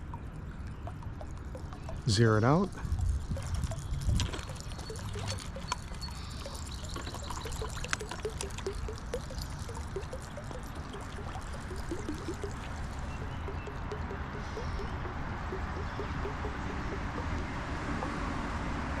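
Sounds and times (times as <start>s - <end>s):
faint clicks: 0.0s - 17.5s
creek water trickling: 0.0s - 18.2s.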